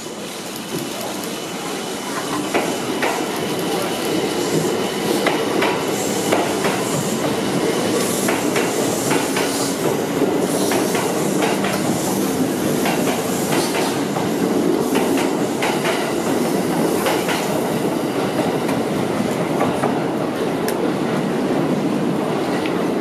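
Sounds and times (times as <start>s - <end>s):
electric train rolling rumble: 0.0s - 23.0s.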